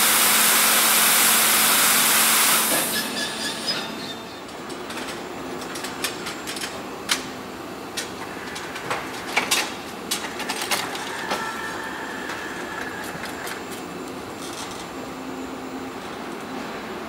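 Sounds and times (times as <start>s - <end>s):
machinery hum and rumble: 0.0s - 17.0s.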